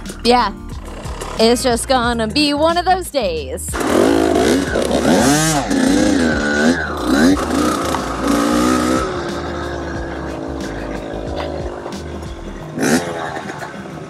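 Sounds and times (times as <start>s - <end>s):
dirt bike engine revving: 0.0s - 2.9s, 3.7s - 14.0s.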